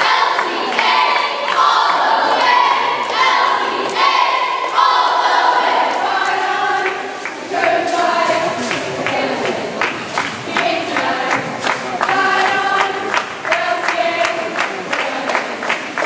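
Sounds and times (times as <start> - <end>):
cheerleaders shouting a cheer: 0.0 - 15.7.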